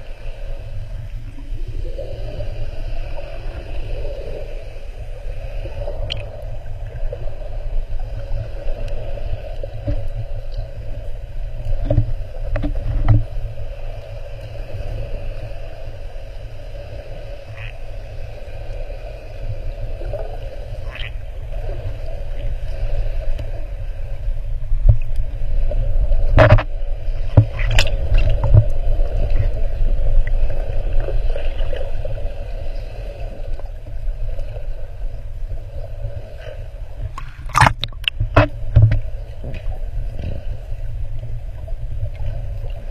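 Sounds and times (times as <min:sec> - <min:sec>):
muffled underwater water rumble: 0:00.0 - 0:42.9.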